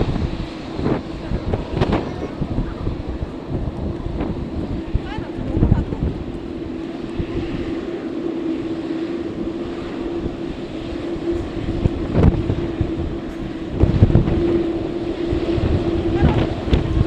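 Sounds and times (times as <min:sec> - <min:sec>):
steady droning tone: 0:00.0 - 0:17.0
wind buffeting microphone: 0:00.0 - 0:17.0.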